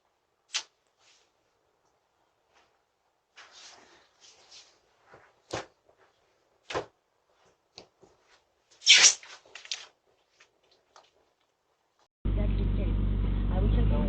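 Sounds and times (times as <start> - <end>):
small rustles: 0.5 - 12.1.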